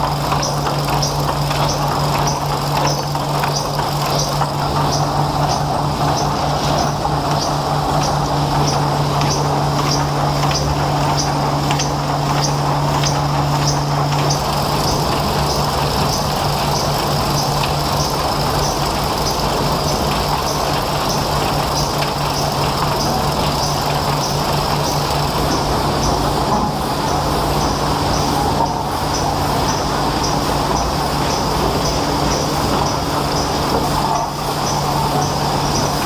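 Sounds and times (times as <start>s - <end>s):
high mechanical ticking: 0.0s - 36.0s
sawmill machinery hum: 0.0s - 36.0s.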